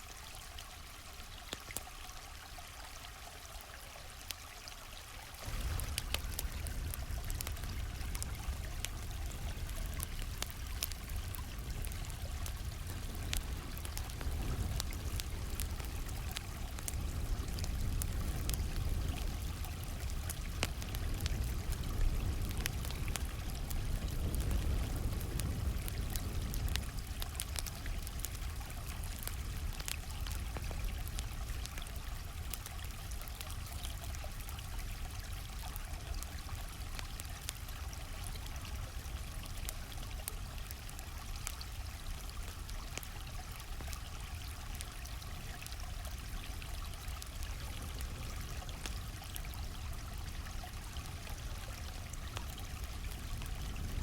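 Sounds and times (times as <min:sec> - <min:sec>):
campfire crackling: 0:00.0 - 0:54.0
stream water flowing: 0:00.0 - 0:54.0.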